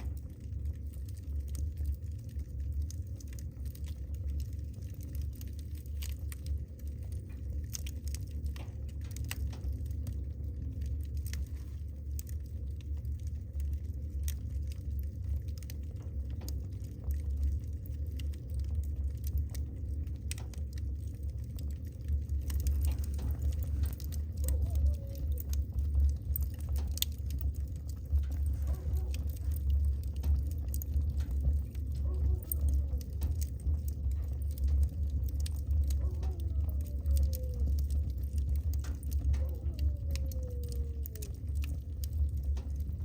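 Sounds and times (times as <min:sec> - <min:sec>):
low rumble of flames: 0:00.0 - 0:43.0
wood fire crackling and popping: 0:00.0 - 0:43.0.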